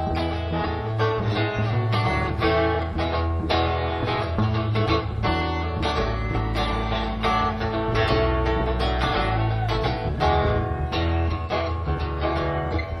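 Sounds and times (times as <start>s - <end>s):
acoustic guitar plucked and strummed: 0.0s - 13.0s
walking bass line: 0.0s - 13.0s.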